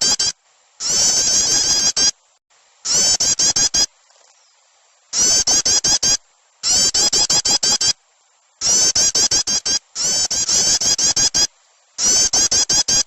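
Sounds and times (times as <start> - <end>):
small birds chirping: 0.0 - 2.1, 2.9 - 13.0.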